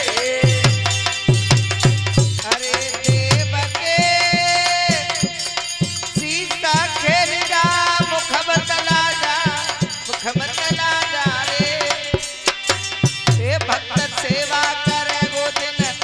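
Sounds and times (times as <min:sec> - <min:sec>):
hand drum beat: 0:00.0 - 0:16.0
person singing devotional melody: 0:00.0 - 0:16.0.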